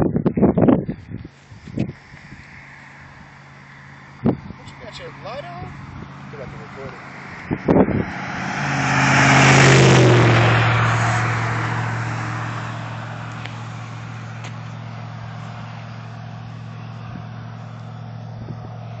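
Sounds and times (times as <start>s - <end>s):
low engine hum: 0.0s - 19.0s
vehicle driving past: 2.3s - 19.0s.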